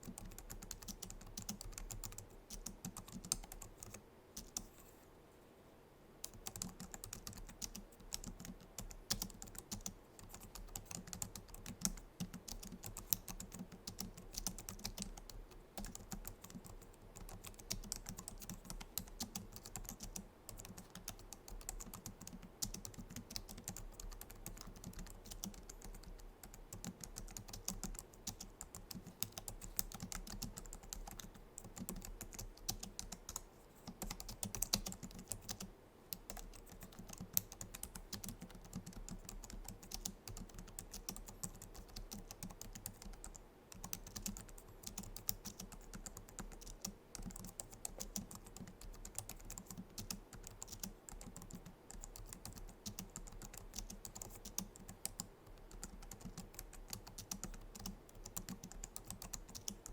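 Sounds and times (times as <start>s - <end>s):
fast typing on keyboard: 0.0s - 4.7s, 6.2s - 59.9s.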